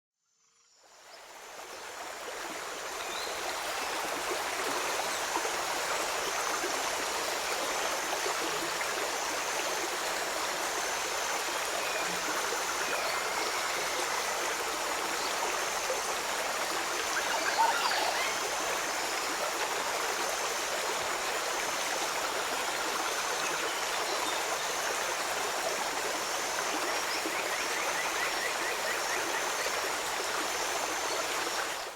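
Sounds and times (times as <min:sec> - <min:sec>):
stream flowing water: 0:00.6 - 0:31.9.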